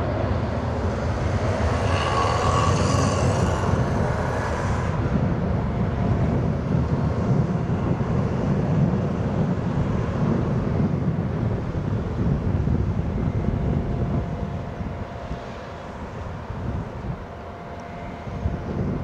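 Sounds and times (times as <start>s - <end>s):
jet engine whine: 0.0s - 19.0s
low jet rumble: 0.0s - 19.0s.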